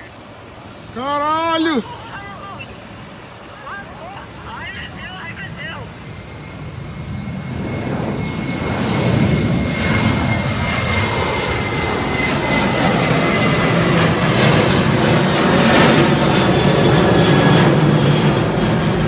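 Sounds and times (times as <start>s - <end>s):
high fan whine: 0.0s - 19.0s
jet engines roaring: 0.0s - 19.0s.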